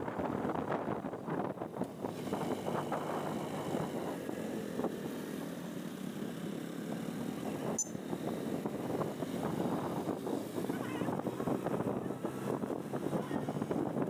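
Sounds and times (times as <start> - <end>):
wind on microphone: 0.0 - 5.1, 7.4 - 14.0
motorcycle engines and road noise: 0.0 - 14.0.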